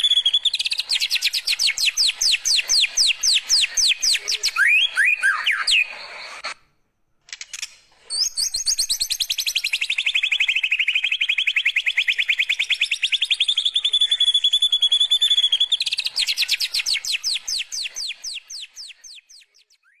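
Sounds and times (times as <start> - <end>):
bird singing a fast trill: 0.0 - 6.0, 8.1 - 20.0.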